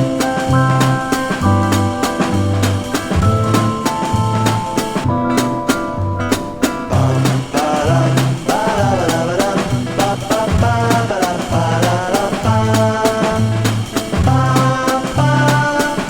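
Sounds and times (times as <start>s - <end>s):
upbeat instrumental pop music: 0.0s - 16.0s.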